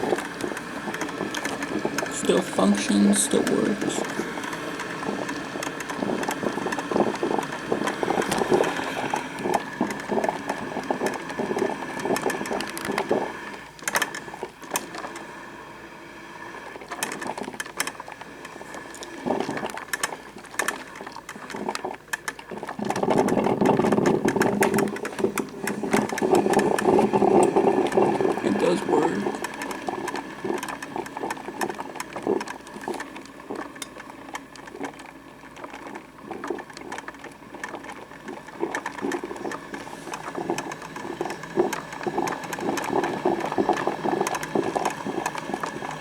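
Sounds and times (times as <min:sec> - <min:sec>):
coffee maker gurgling and sputtering: 0:00.0 - 0:46.0.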